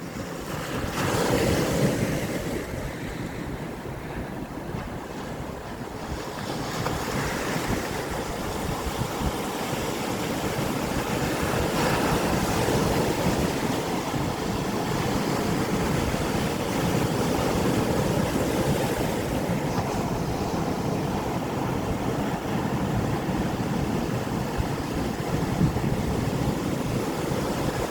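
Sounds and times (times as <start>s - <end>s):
sea waves breaking on shore: 0.0s - 27.9s
wind buffeting microphone: 0.0s - 27.9s.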